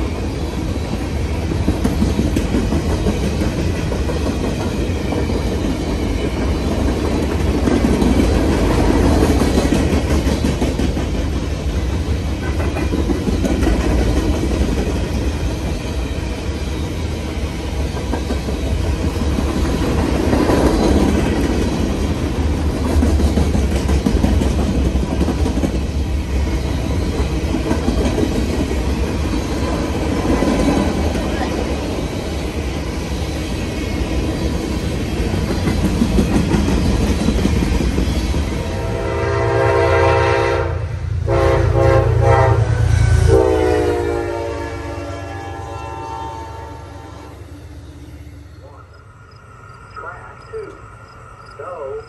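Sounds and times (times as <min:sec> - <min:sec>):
freight cars rumbling on rails: 0:00.0 - 0:44.7.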